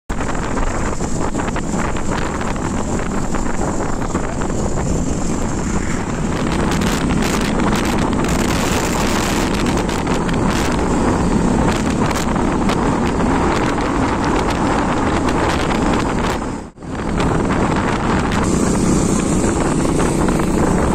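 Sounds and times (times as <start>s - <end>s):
motorcycle engine: 0.1s - 20.9s
road noise: 0.1s - 20.9s
wind buffeting microphone: 0.1s - 20.9s.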